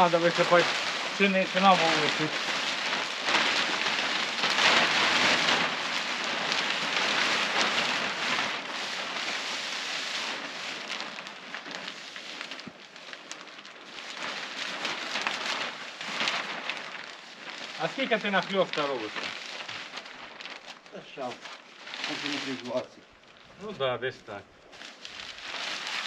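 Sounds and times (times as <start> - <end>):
plastic sheet rustling: 0.0 - 26.0.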